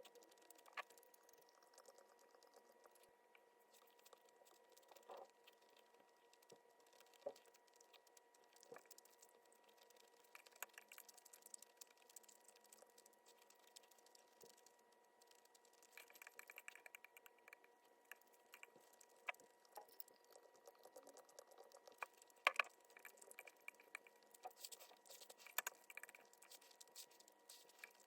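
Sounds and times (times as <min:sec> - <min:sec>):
faint clicks and taps: 0:00.0 - 0:28.0.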